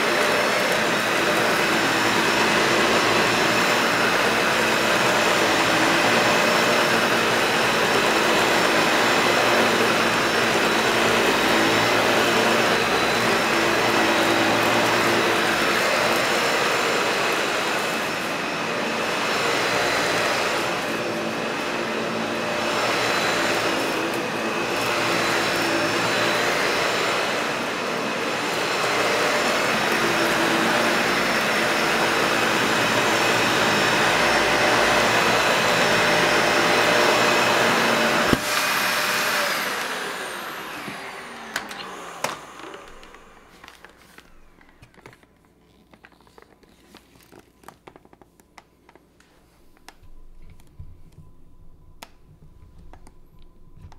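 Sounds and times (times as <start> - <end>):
vacuum cleaner running with whine: 0.0 - 48.0, 49.5 - 53.9.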